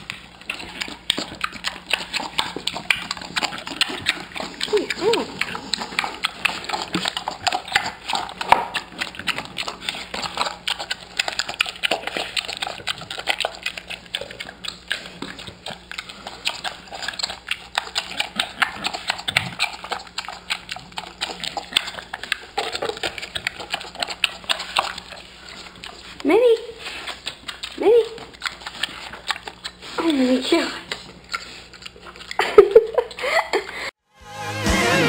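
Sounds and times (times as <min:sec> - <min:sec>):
pig smacking and slurping: 0:00.0 - 0:33.9.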